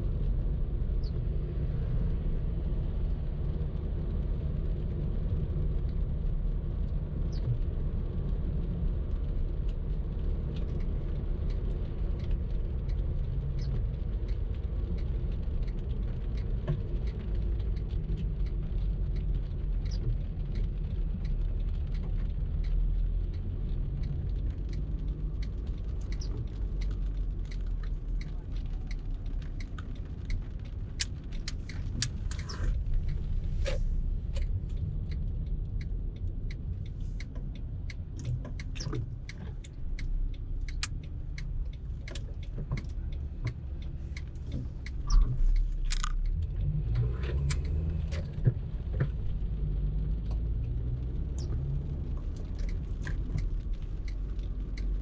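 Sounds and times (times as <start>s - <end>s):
road and engine rumble: 0.0s - 55.0s
small clicks and rattles: 7.2s - 55.0s.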